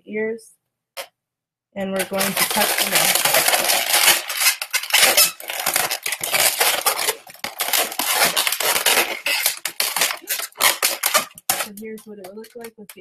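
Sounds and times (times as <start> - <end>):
balloons squeaking and rubbing: 1.8 - 13.0.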